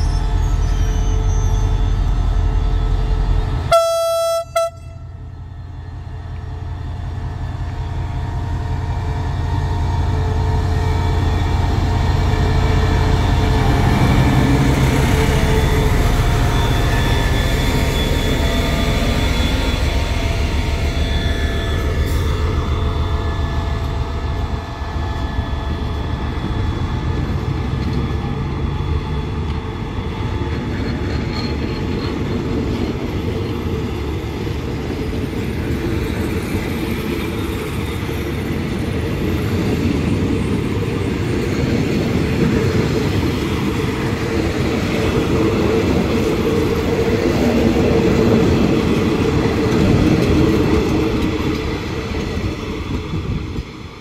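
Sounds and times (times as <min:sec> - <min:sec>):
locomotive hum: 0:00.0 - 0:54.0
train wheels clickety-clack: 0:08.5 - 0:54.0.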